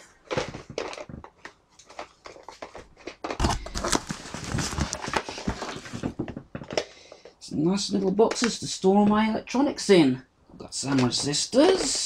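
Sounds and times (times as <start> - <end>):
plastic boxes clicking and knocking: 0.0 - 9.4, 10.8 - 12.0.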